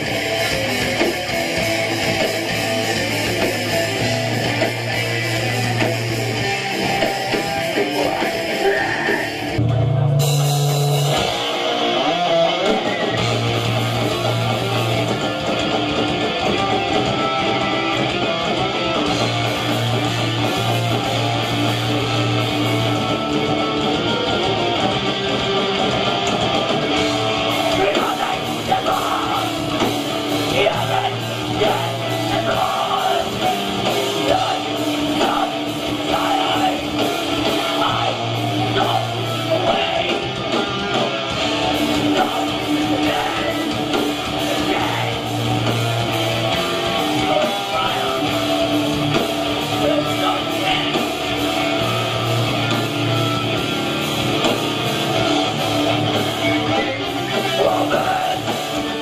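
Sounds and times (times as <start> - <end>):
bass guitar: 0.0 - 59.0
distorted electric guitars: 0.0 - 59.0
drums: 0.0 - 59.0
yelled vocals: 0.0 - 59.0.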